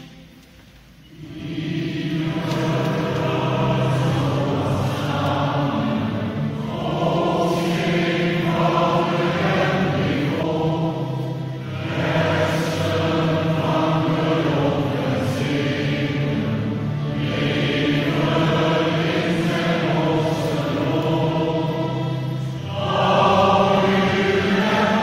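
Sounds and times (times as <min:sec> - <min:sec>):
church choir singing a hymn: 0:00.0 - 0:00.4, 0:01.0 - 0:25.0.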